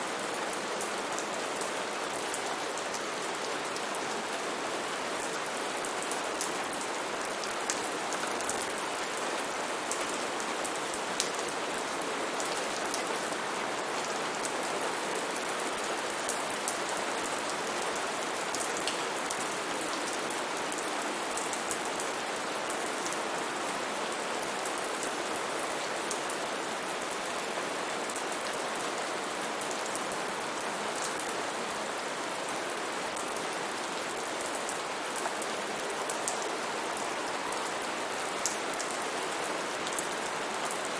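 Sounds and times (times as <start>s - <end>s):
heavy rain on foliage: 0.0s - 40.9s.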